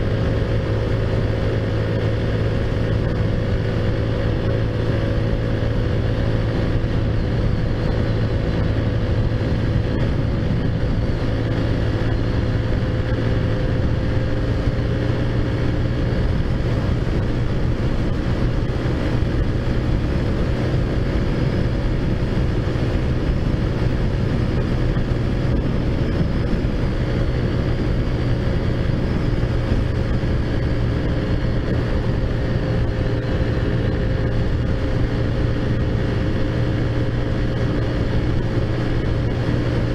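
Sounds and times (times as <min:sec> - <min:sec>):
motorcycle engine running steadily: 0:00.0 - 0:39.9
road and wind noise: 0:00.0 - 0:39.9.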